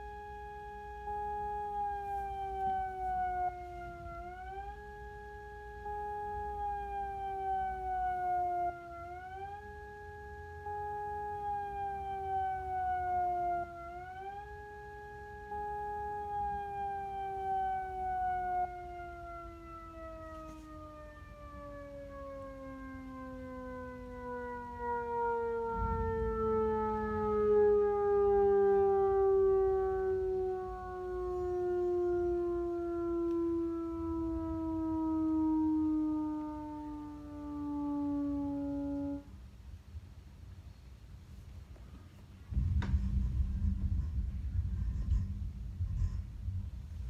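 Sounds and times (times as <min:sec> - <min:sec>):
warning siren wailing: 0:00.0 - 0:40.0, 0:42.5 - 0:47.0.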